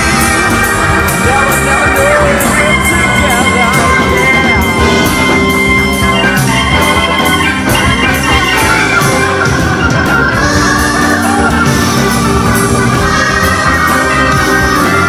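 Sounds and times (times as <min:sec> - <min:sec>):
drums keeping a beat: 0:00.0 - 0:15.0
live band playing: 0:00.0 - 0:15.0.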